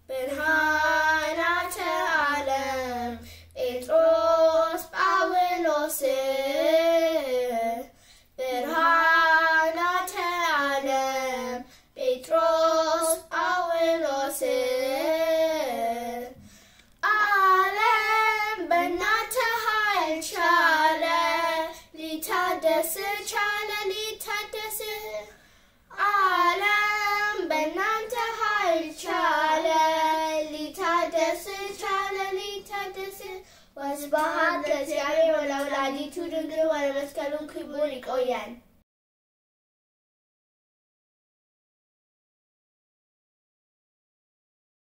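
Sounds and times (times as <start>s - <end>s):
girls singing a hymn: 0.0s - 37.0s.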